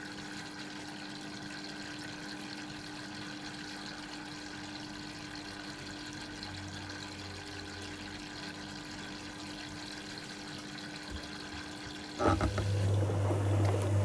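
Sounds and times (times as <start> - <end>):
water running into washing machine: 0.0 - 14.0.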